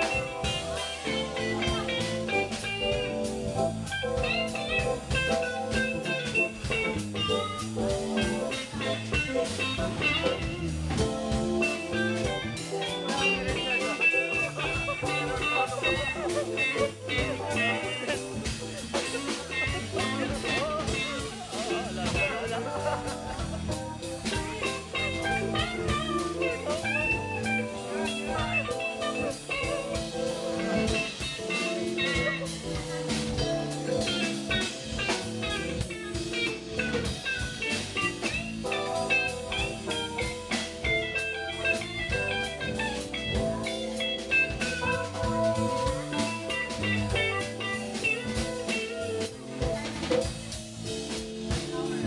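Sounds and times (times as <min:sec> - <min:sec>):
bass guitar: 0:00.0 - 0:52.0
drums: 0:00.0 - 0:52.0
electric guitar lead melody: 0:00.0 - 0:52.0.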